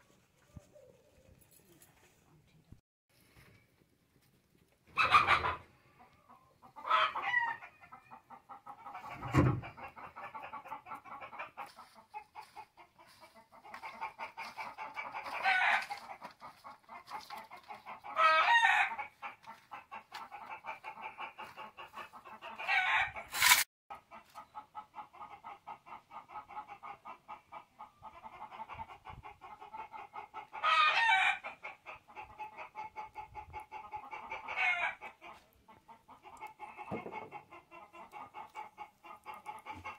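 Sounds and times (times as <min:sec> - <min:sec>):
chickens clucking: 0:04.6 - 0:39.9.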